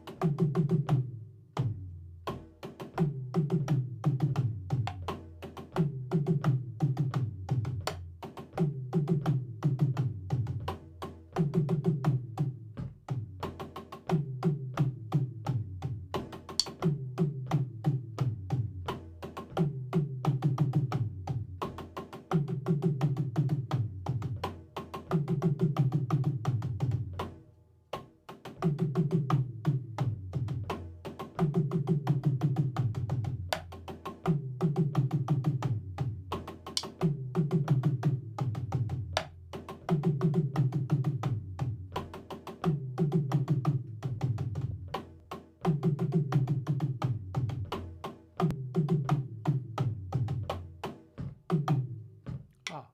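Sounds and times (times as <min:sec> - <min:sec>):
drum kit groove: 0:00.0 - 0:27.4, 0:28.0 - 0:52.9.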